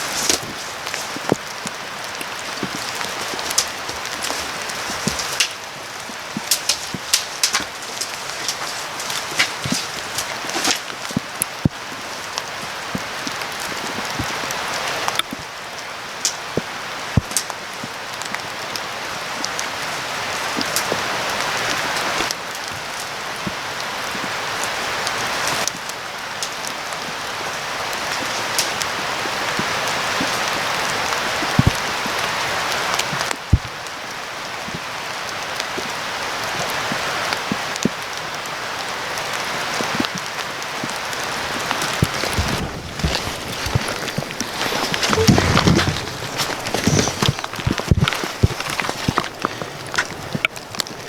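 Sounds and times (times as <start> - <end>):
sleet and rain pattering: 0.0 - 51.0.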